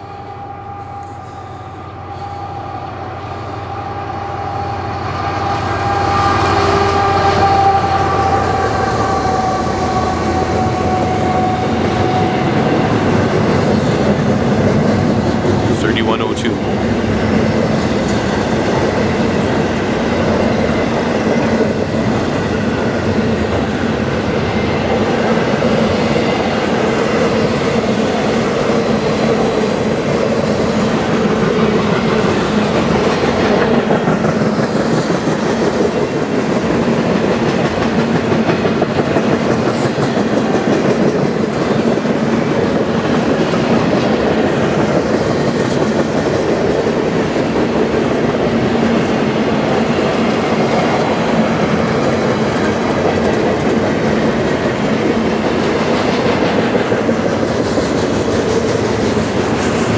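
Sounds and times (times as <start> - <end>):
steel wheels running on rails: 0.0 - 59.9.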